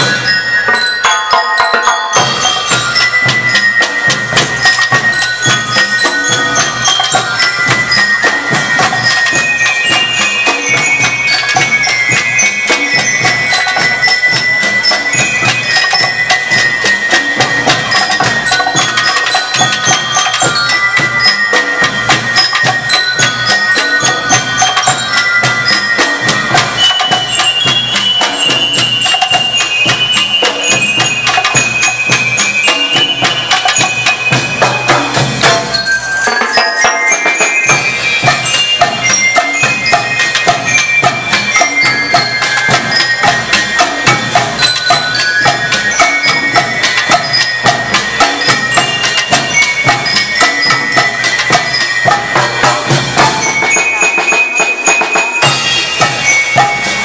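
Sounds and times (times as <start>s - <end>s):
marching drum beat: 0.0s - 0.9s, 1.6s - 57.0s
bell lyre and xylophone melody: 0.0s - 57.0s.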